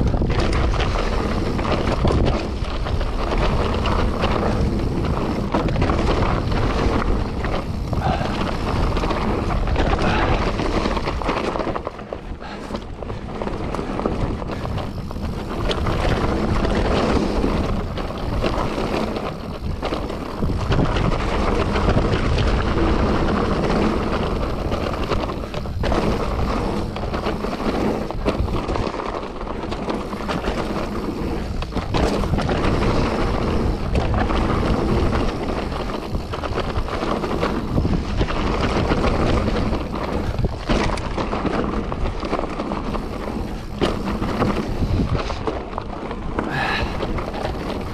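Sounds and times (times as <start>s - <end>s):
bike knocks and rattles: 0.0s - 47.9s
tyres rushing on trail: 0.0s - 47.9s
wind on microphone: 0.0s - 47.9s.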